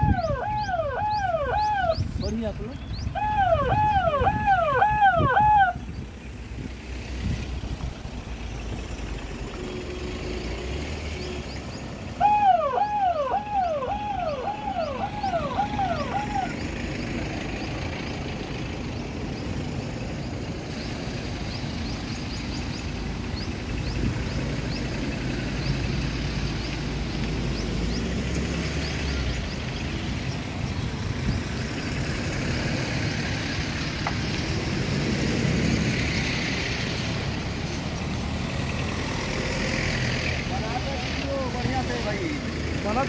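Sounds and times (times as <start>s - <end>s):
vehicles driving on dirt road: 0.0s - 43.0s.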